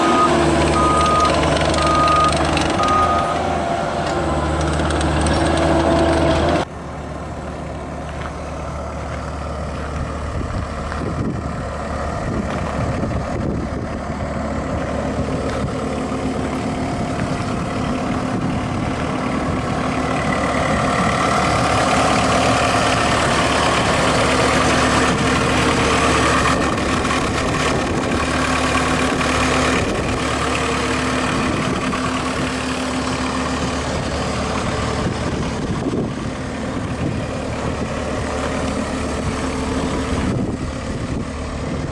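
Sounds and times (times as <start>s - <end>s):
diesel engine idling: 0.0s - 41.9s
diesel engine running loudly: 0.0s - 41.9s.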